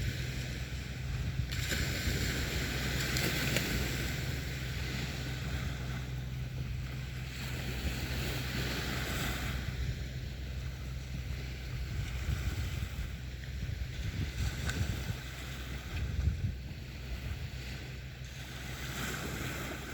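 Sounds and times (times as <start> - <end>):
sea waves washing onto beach: 0.0 - 19.9
wind rumbling on microphone: 0.0 - 19.9.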